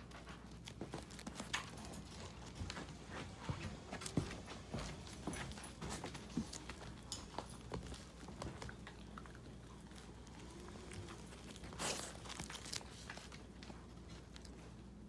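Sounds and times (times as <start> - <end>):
puppies' paws tapping and scuffling: 0.0 - 15.0.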